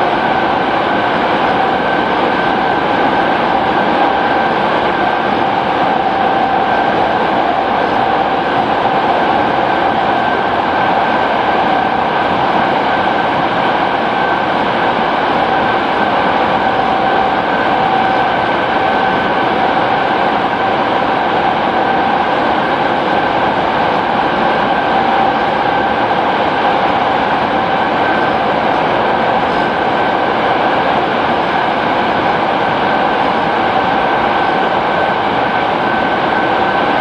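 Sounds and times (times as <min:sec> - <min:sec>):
electric train running noise: 0:00.0 - 0:37.0
steady train whine: 0:00.0 - 0:37.0.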